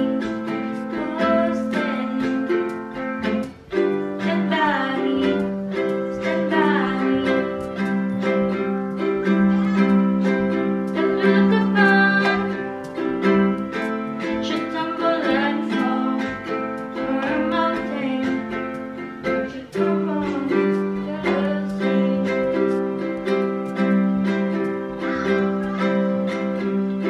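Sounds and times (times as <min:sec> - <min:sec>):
plucked ukulele music: 0:00.0 - 0:27.0.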